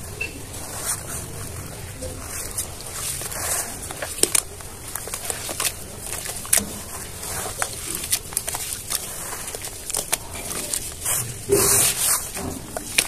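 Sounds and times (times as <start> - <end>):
wet cement squelching: 0.0 - 13.0.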